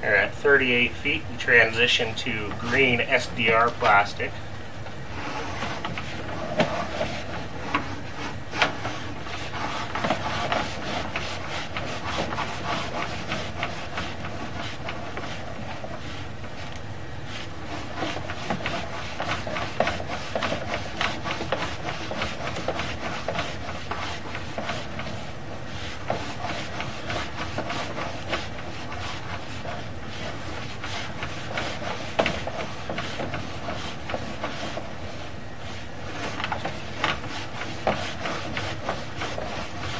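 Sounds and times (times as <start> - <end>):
push cable rubbing and scraping: 1.1 - 4.3, 5.1 - 39.9.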